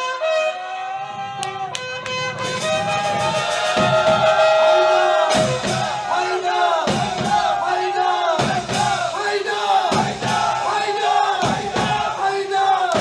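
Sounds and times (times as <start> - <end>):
crowd chanting in unison: 0.7 - 13.0.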